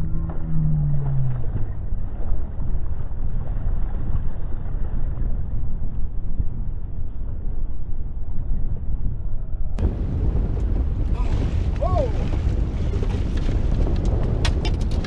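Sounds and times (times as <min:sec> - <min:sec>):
boat motor rumbling: 0:00.0 - 0:15.0
water noise: 0:00.0 - 0:15.0.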